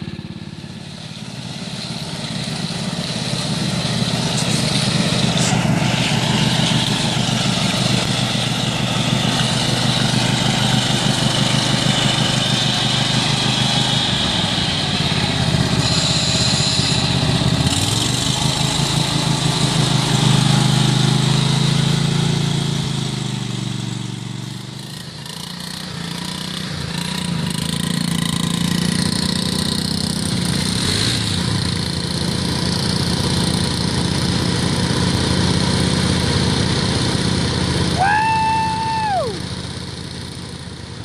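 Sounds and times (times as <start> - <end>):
mower churning through mud and water: 0.0 - 38.0, 39.4 - 41.0
riding mower engine revving: 0.0 - 41.0.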